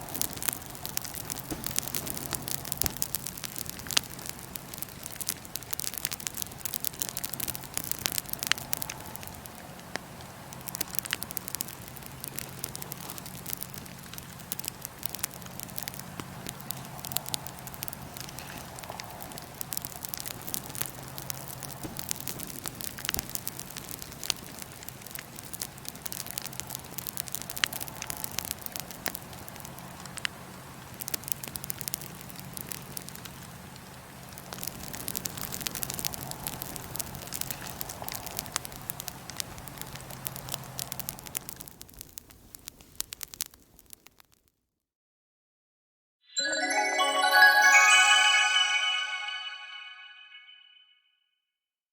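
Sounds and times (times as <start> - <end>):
wood fire crackling and popping: 0.0 - 44.4.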